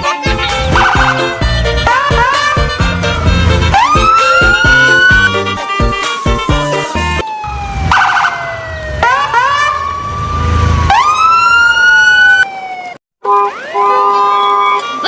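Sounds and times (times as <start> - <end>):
siren-like wailing tones: 0.0 - 15.0.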